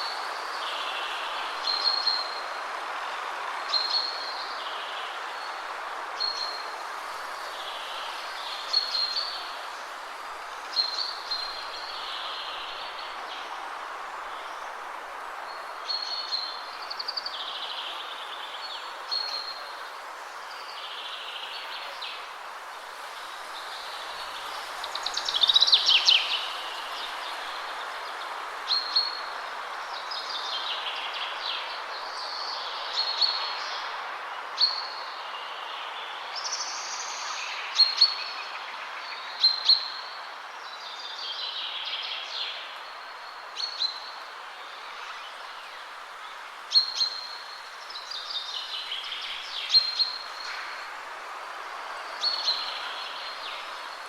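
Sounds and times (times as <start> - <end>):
songbirds singing: 0.0 - 54.0
wind through trees: 0.0 - 54.0.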